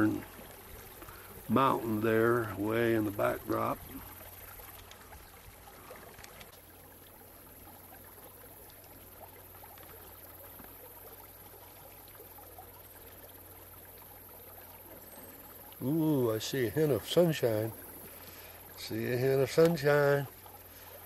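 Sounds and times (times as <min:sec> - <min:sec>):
creek flowing: 0:00.0 - 0:21.0
low steady hum: 0:00.0 - 0:21.0.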